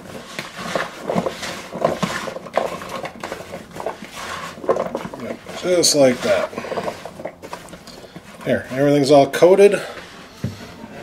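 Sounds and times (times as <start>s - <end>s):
vegetable chunks rattling in bowl: 0.0s - 9.5s.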